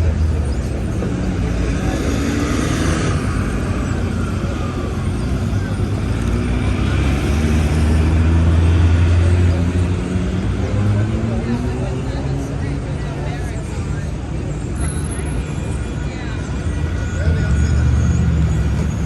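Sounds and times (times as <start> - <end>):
city street traffic: 0.0 - 19.0
vehicle engine humming: 0.0 - 19.0.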